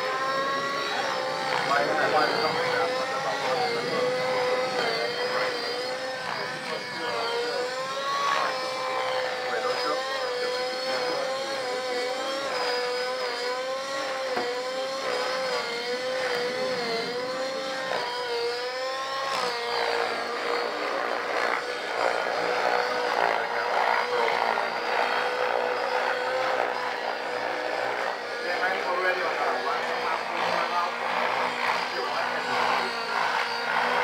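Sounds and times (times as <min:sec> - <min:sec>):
rc helicopter motor and rotor whine: 0:00.0 - 0:34.0.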